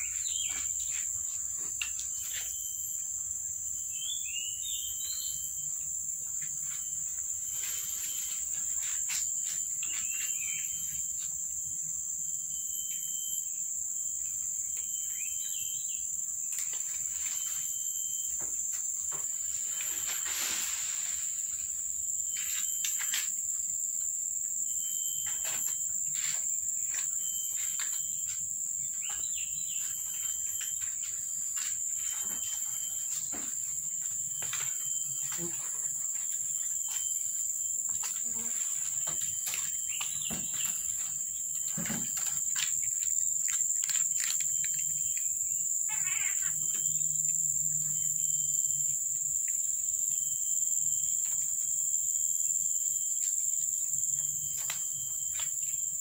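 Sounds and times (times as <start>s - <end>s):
insects shrilling: 0.0s - 56.0s.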